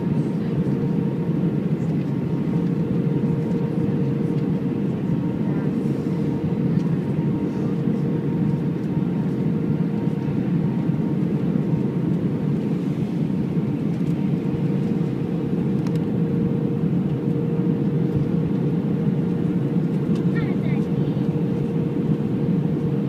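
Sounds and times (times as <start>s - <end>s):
airplane cabin engine noise: 0.0s - 23.0s.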